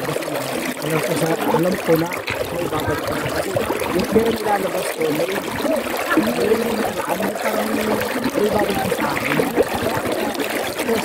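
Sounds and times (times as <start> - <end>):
sea water splashing: 0.0 - 11.0
voices: 0.0 - 11.0
water poured from a cup: 0.0 - 11.0.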